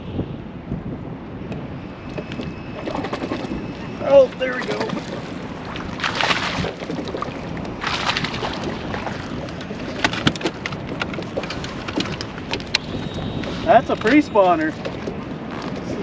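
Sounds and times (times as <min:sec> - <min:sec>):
wind on microphone: 0:00.0 - 0:16.0
water splashing: 0:02.1 - 0:15.8.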